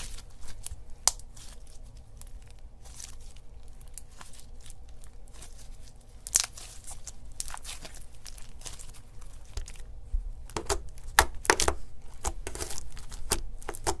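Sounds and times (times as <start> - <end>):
slime crackling and popping: 0.0 - 14.0.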